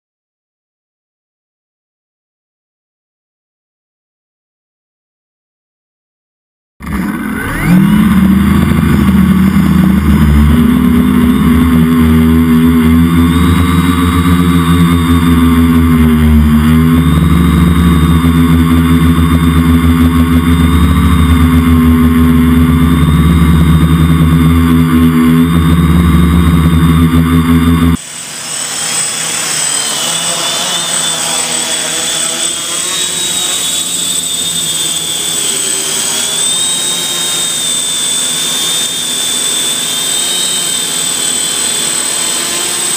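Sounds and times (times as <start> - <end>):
distant buzz with high whine: 6.8 - 42.9
drone propellers humming: 6.8 - 42.9.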